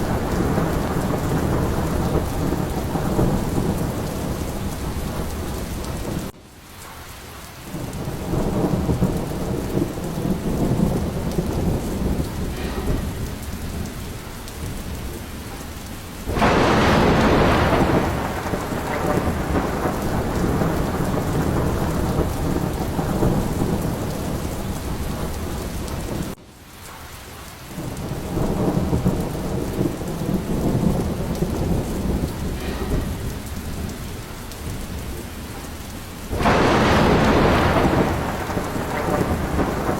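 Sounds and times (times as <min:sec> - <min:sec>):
loud thunderclap: 0:00.0 - 0:06.4, 0:07.7 - 0:26.4, 0:27.8 - 0:39.9
rolling thunder: 0:00.0 - 0:06.4, 0:07.7 - 0:26.4, 0:27.7 - 0:39.9
steady rain: 0:00.0 - 0:39.9.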